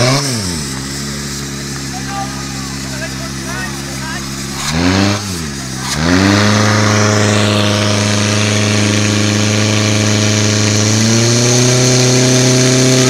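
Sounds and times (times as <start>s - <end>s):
pump engine running at high revs: 0.0s - 13.0s
water spraying from jets: 0.0s - 13.0s.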